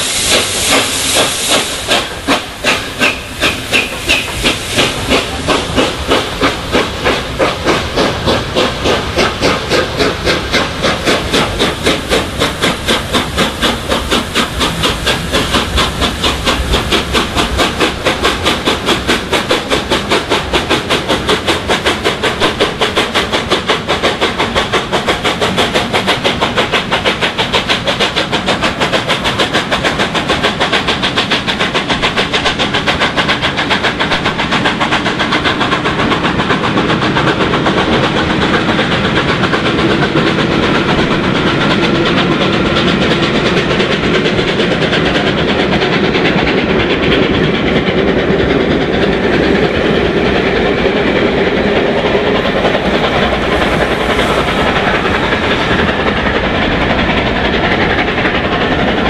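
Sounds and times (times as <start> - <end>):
steam hiss: 0.0 - 59.0
steam locomotive chuffing: 0.0 - 59.0.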